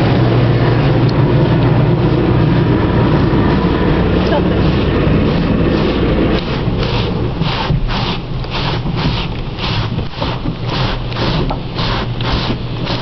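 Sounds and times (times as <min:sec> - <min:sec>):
car wash rumble and swishing: 0:00.0 - 0:13.0.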